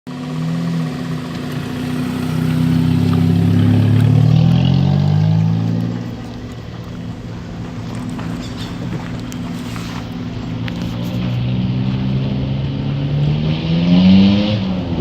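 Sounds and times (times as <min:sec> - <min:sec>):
car engine revving through loud exhaust: 0:00.1 - 0:15.0.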